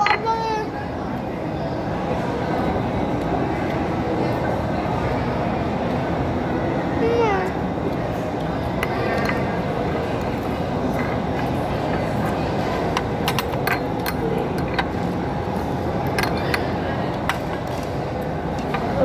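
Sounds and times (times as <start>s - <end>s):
babble of many voices: 0.0s - 19.0s.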